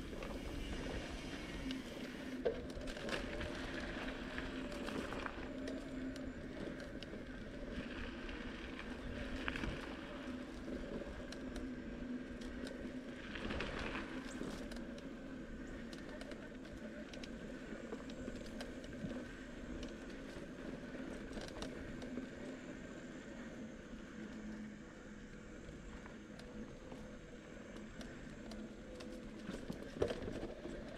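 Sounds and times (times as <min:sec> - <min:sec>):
bicycle rolling on gravel: 0:00.0 - 0:30.9
small clicks and rattles: 0:01.6 - 0:22.7, 0:26.2 - 0:30.9.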